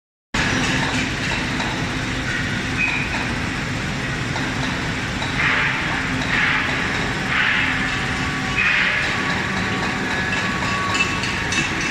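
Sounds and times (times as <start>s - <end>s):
arc welding noise: 0.4s - 11.9s.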